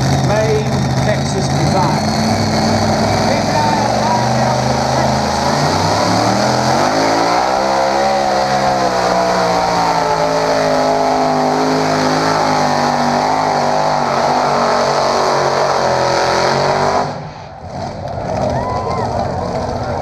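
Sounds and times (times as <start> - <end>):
engine at high revs under load: 0.0 - 18.3.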